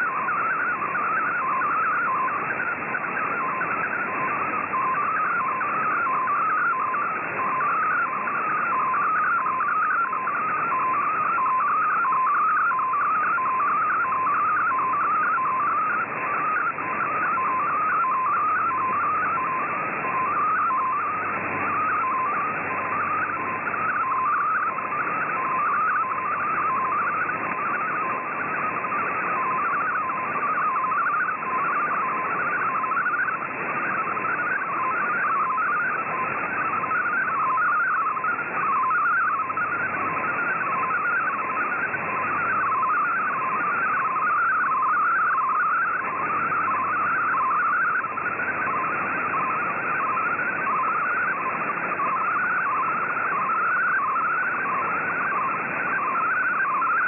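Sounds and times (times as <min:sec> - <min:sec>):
radio hiss: 0:00.0 - 0:57.0
warbling digital data tones: 0:00.0 - 0:57.0.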